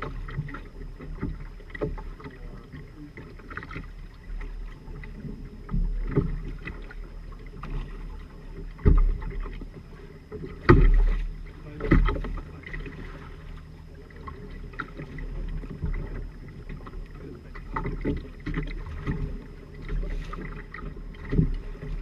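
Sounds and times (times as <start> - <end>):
water and hull noise: 0.0 - 22.0.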